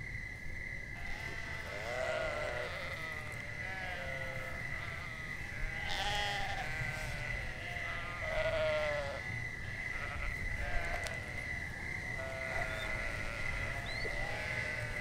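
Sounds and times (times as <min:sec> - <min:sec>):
farm animals bleating: 0:01.0 - 0:11.4, 0:12.2 - 0:15.0.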